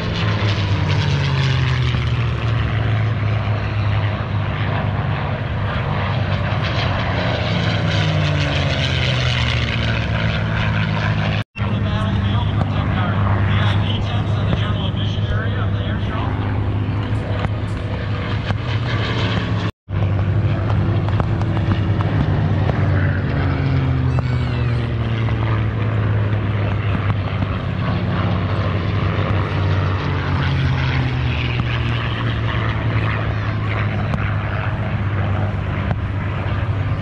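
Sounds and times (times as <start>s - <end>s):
propeller airplane flying past: 0.0s - 37.0s.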